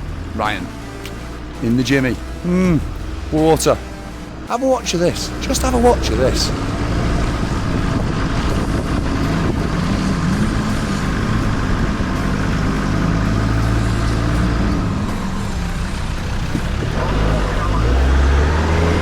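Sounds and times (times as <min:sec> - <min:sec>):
vehicle engine under load: 0:00.0 - 0:19.0.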